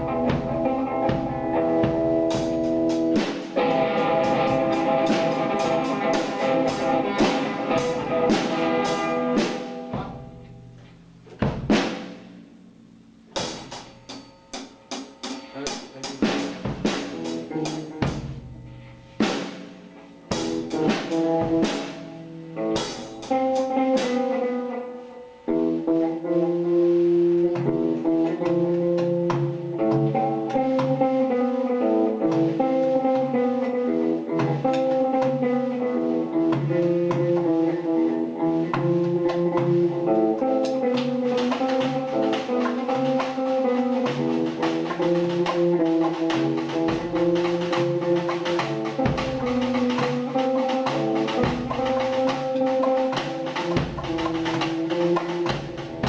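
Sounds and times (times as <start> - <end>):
drums: 0.0 - 56.0.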